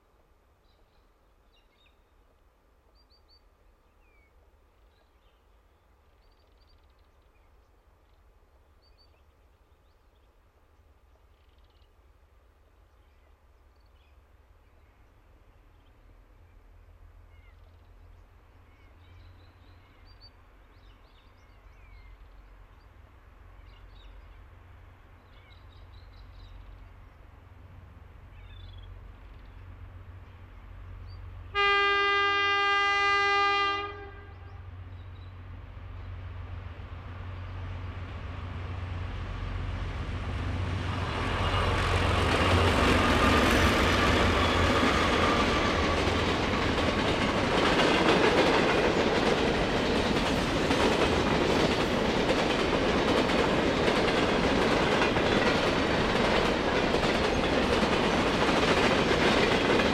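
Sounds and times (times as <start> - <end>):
distant diesel train rumble: 11.9 - 59.9.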